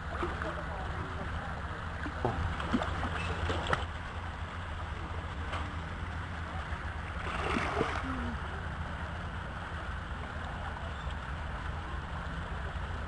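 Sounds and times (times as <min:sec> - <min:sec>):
pool water splashing: 0:00.0 - 0:10.5
steady low rumble: 0:00.0 - 0:13.0.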